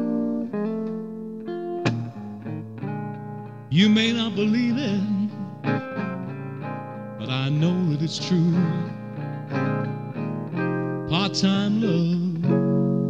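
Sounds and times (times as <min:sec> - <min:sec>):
bluesy guitar lead line: 0:00.0 - 0:13.0
plucked guitar chords: 0:00.0 - 0:13.0.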